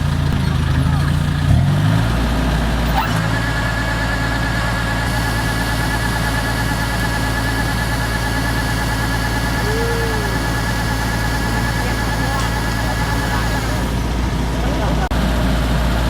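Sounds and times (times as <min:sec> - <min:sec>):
combine harvester engine hum: 0:00.0 - 0:16.0.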